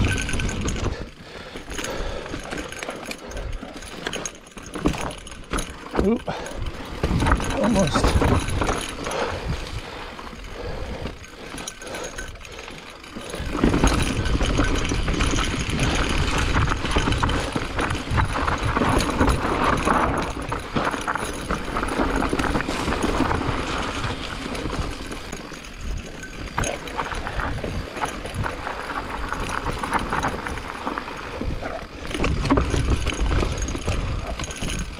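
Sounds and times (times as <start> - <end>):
bike chain and frame rattling: 0.0 - 34.9
bike tyres rolling over dirt: 0.0 - 34.9.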